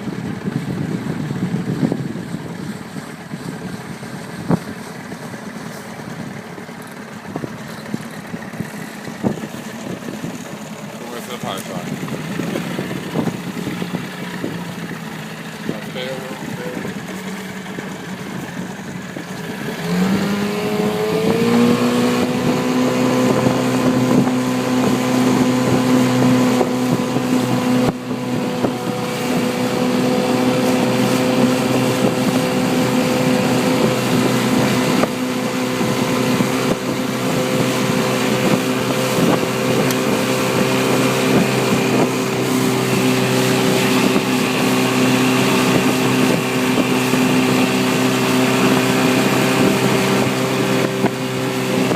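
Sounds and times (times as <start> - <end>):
boat motor running: 0.0 - 51.9.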